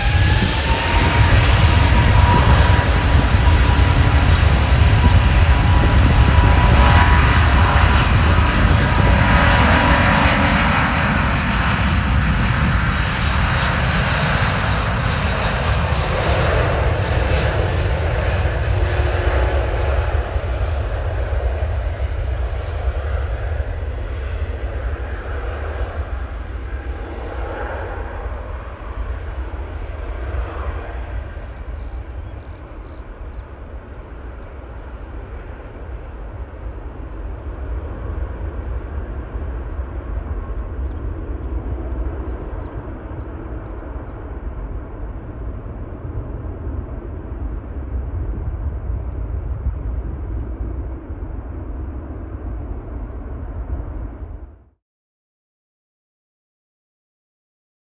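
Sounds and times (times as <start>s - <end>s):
jet engines roaring: 0.0s - 54.6s.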